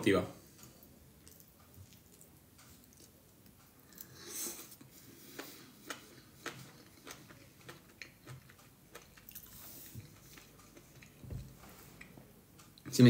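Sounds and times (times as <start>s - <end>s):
faint chewing clicks: 0.5s - 12.9s.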